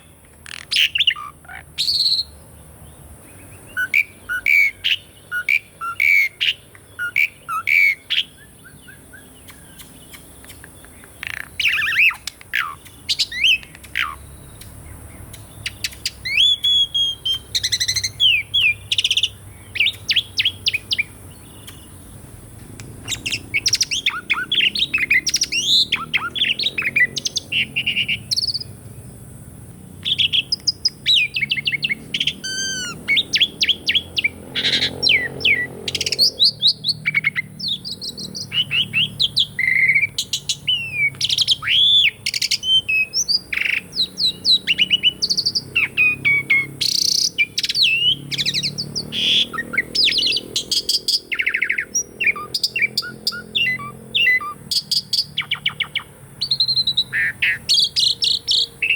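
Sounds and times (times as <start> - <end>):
starling singing: 0.0 - 2.6, 3.2 - 28.9, 30.0 - 58.9.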